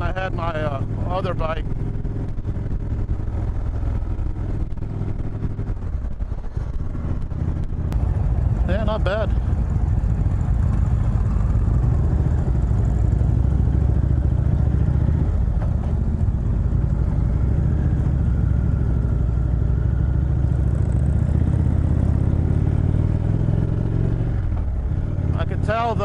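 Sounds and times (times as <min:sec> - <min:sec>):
rushing wind: 0:00.0 - 0:25.8
motorcycle engine running: 0:00.0 - 0:26.0.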